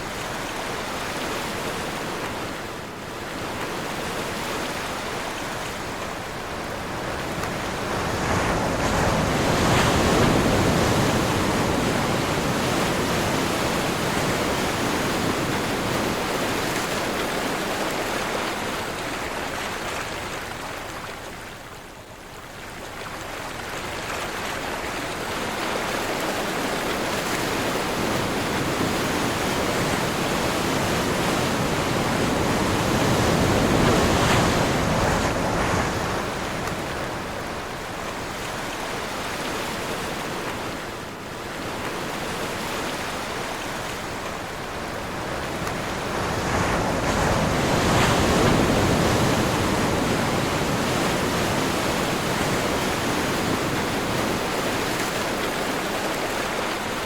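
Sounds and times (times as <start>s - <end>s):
sea waves breaking: 0.0s - 57.0s
wind: 0.0s - 57.0s.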